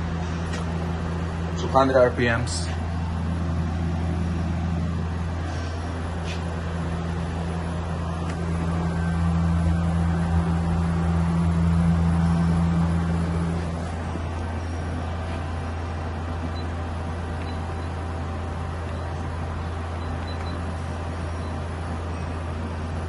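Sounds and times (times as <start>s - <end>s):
higher machine tone: 0.0s - 23.0s
lathe spindle humming: 0.0s - 23.0s.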